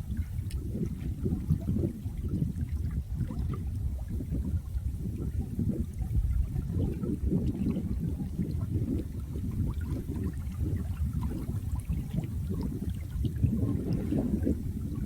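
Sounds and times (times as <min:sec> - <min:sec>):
running water gurgling: 0:00.0 - 0:15.0
small splashes and drips: 0:00.0 - 0:15.0.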